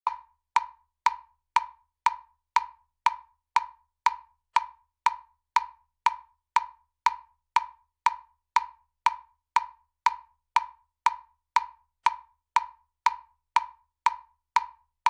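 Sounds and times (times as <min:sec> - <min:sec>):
metronome ticking: 0:00.0 - 0:15.0.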